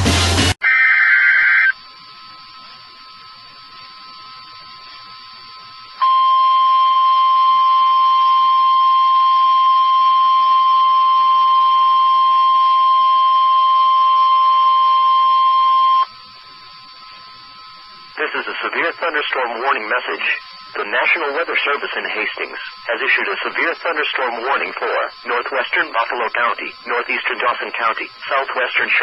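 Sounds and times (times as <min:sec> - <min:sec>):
emergency alert tone: 0:00.6 - 0:29.0.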